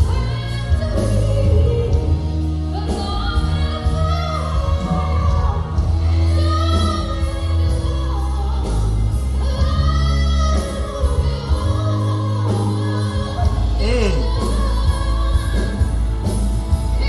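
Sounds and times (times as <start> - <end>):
live band with heavy bass: 0.0 - 17.0
woman singing: 0.0 - 17.0.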